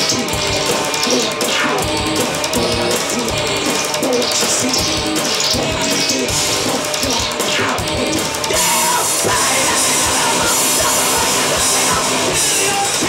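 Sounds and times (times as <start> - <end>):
bass guitar: 0.0 - 13.0
electric guitar: 0.0 - 13.0
electronic drum beat: 0.0 - 13.0.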